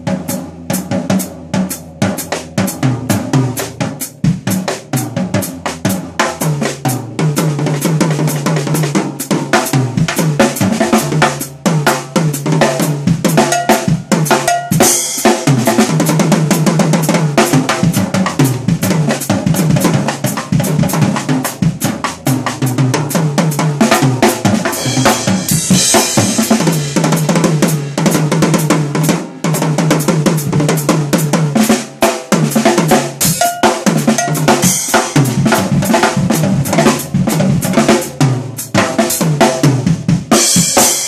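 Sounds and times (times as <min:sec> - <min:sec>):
drum kit fills: 0:00.0 - 0:41.0.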